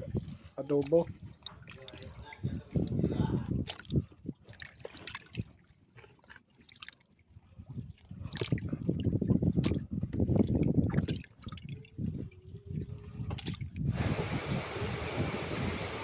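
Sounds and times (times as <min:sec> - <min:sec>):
water dripping and splashing: 0:00.0 - 0:13.9.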